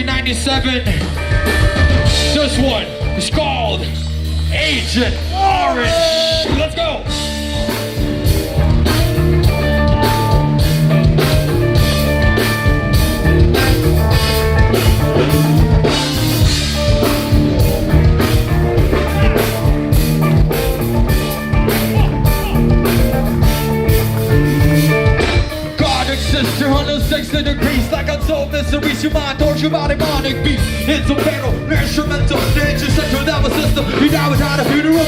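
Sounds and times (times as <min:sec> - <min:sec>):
electric guitar: 0:00.0 - 0:04.5, 0:05.1 - 0:35.0
bass guitar: 0:00.0 - 0:35.0
drum kit beat: 0:00.0 - 0:35.0.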